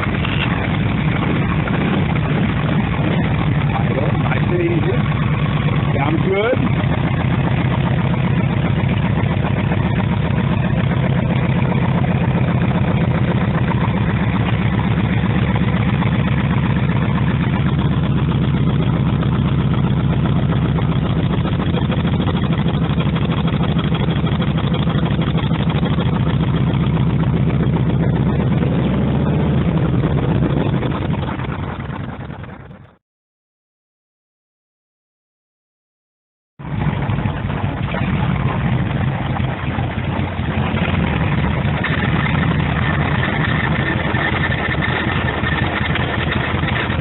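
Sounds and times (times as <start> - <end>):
motorcycle engine running: 0.0 - 33.0, 36.6 - 47.0.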